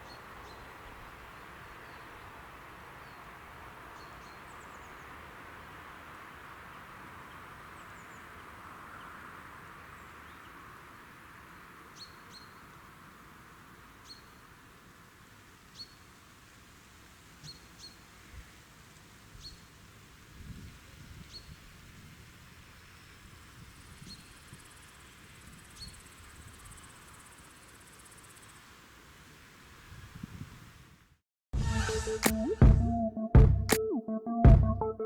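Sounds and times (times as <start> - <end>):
soft outdoor hiss: 0.0 - 31.2.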